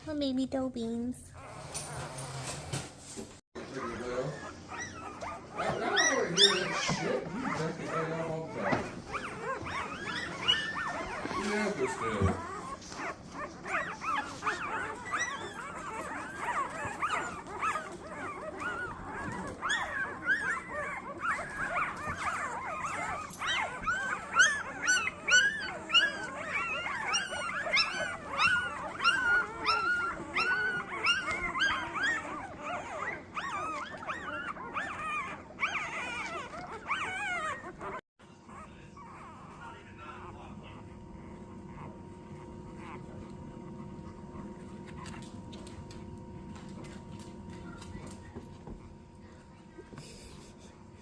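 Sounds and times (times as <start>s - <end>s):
puppies squeaking and whimpering: 1.2s - 2.7s, 3.6s - 51.0s.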